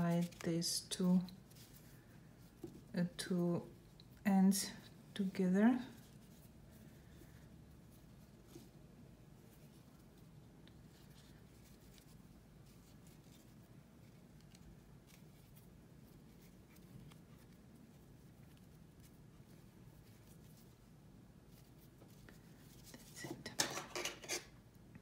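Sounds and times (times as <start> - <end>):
fingers handling yarn: 0.0 - 24.8
low room hum: 0.0 - 25.0.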